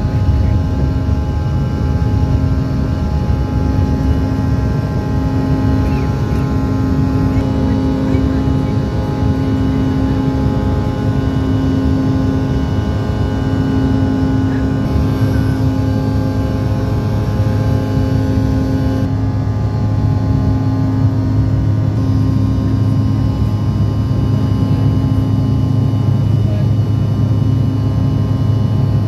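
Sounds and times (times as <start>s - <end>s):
jet engines during takeoff: 0.0s - 29.0s.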